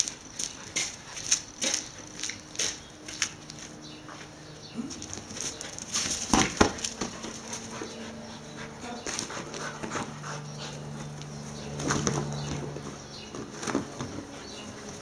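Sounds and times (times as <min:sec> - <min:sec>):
dogs panting: 0:00.0 - 0:15.0
dogs scuffling: 0:00.0 - 0:15.0.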